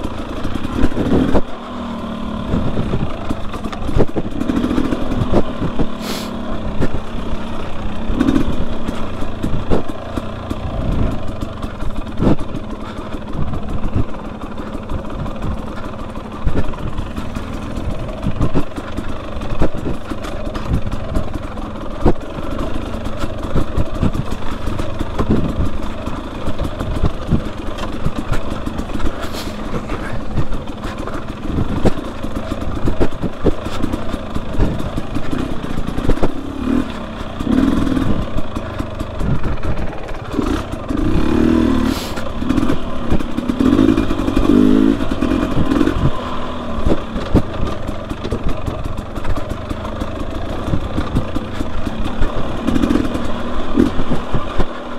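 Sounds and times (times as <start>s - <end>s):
two-stroke engine revving: 0.0s - 54.9s
knocks and clatter: 2.4s - 6.0s, 6.6s - 54.9s.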